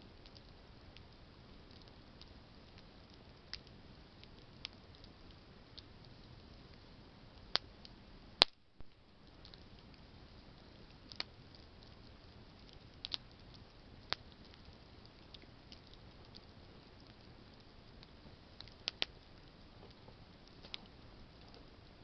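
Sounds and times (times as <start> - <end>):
faint low hiss: 0.0 - 22.0
campfire crackling and popping: 0.1 - 22.0.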